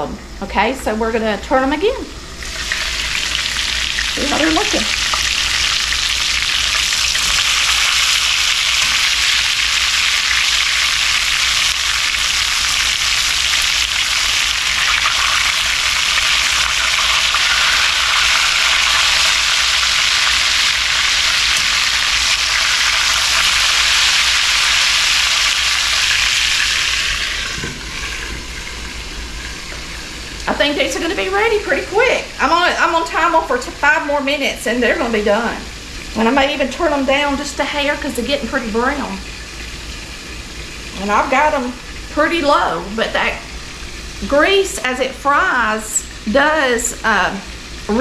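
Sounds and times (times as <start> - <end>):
chicken frying in grease: 1.9 - 48.0.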